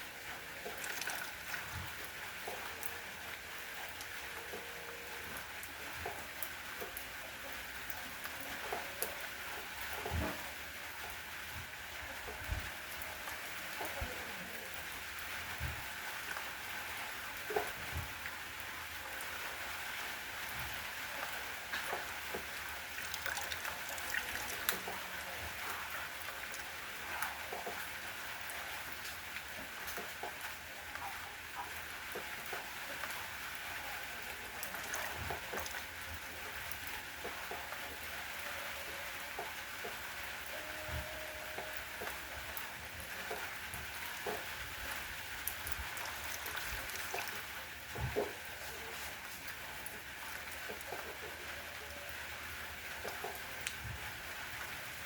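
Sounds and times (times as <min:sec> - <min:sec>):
raindrops ticking on surface: 0:00.0 - 0:55.0
steady rain hiss: 0:00.0 - 0:55.0.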